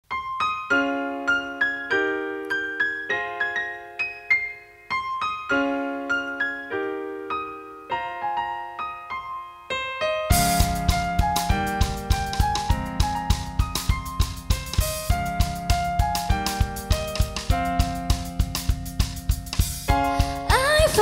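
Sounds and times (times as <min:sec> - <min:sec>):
solo piano chords and melody: 0:00.0 - 0:21.0.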